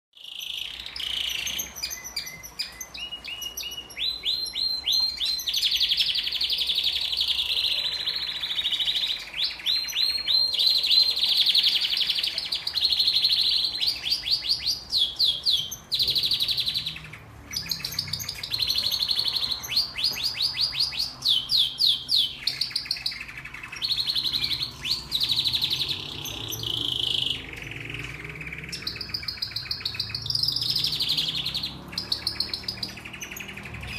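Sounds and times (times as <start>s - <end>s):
canary singing trills: 0.2s - 33.9s.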